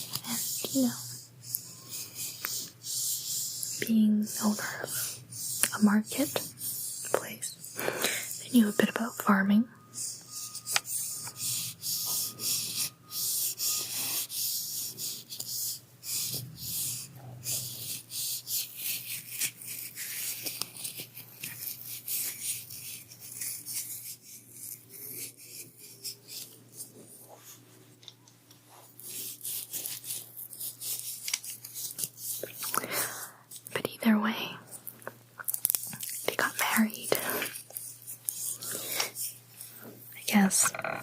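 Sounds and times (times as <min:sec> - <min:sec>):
scratchy rubbing and brushing: 0:00.0 - 0:27.9, 0:28.6 - 0:32.9, 0:35.8 - 0:41.0.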